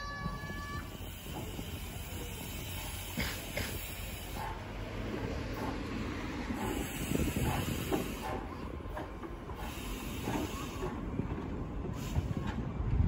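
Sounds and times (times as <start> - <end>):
steam locomotive hissing: 0.0 - 12.6.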